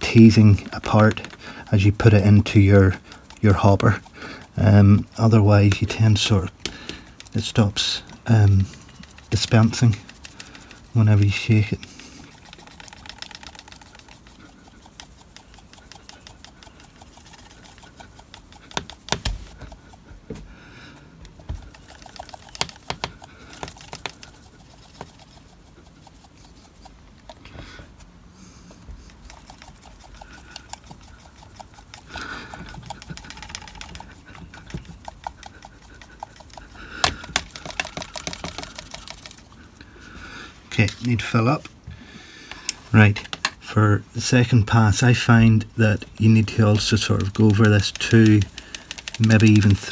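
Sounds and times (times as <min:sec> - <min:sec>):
applicator rattling and ticking: 0:00.0 - 0:28.1, 0:28.7 - 0:41.8, 0:42.5 - 0:49.9.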